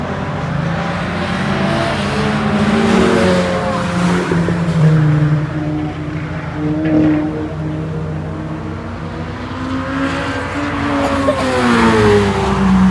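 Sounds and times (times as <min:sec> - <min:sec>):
race car engine running hard: 0:00.0 - 0:12.9.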